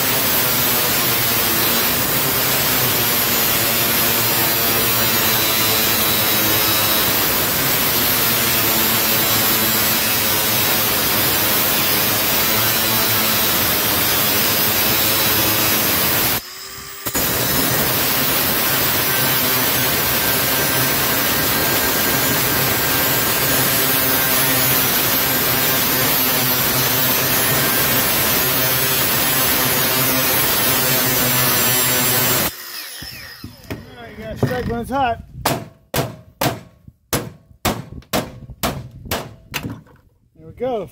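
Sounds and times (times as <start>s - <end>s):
angle grinder cutting steel: 0.0s - 34.7s.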